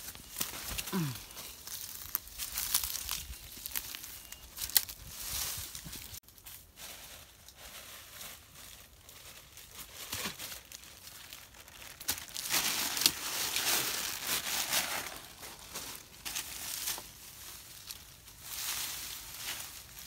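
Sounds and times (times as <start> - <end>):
leafy branches rustling: 0.0 - 20.0.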